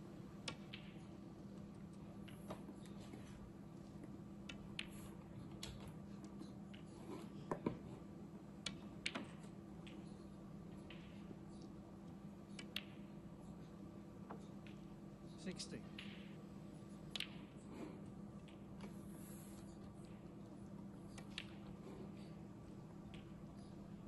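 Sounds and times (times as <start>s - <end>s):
faint steady hum: 0.0s - 24.0s
snooker balls clicking: 0.4s - 24.0s.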